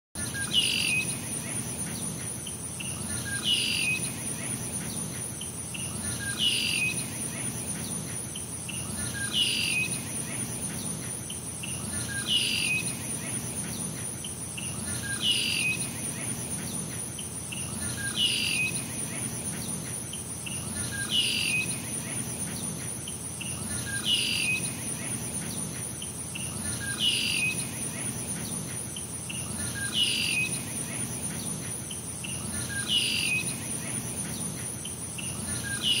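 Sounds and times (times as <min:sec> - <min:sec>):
high-pitched insect drone: 0:00.2 - 0:36.0.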